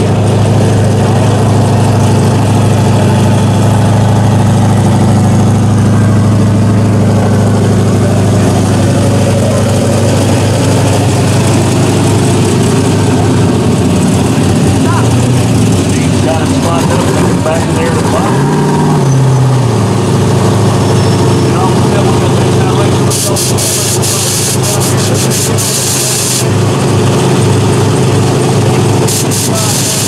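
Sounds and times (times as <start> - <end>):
car engines idling with deep rumble: 0.0 - 30.0.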